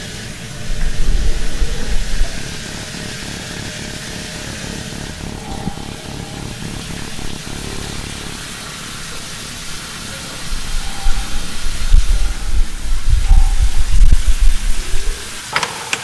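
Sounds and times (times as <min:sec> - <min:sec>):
uneven low rumble: 0:00.0 - 0:15.5
shower spray hissing: 0:00.0 - 0:16.0.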